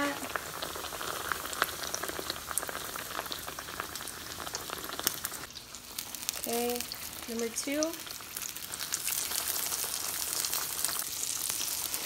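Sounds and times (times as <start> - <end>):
fish deep-frying in hot oil: 0.0 - 12.0.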